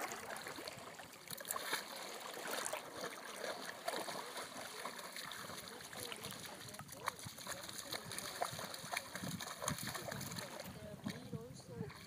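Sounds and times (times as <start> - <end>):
shallow water running over stones: 0.0 - 11.9
dog splashing through water: 0.0 - 12.0.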